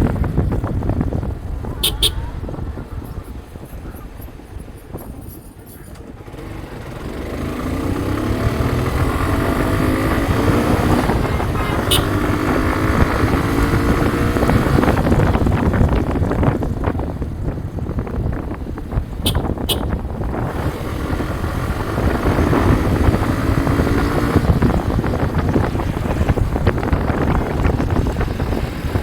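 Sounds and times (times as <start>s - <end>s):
motorcycle engine running: 0.0s - 29.0s
wind on microphone: 0.0s - 29.0s.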